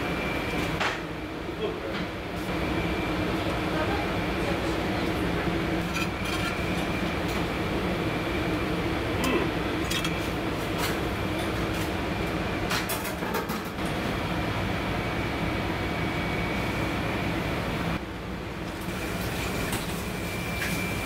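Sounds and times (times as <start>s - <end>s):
kitchen machinery humming: 0.0s - 21.0s.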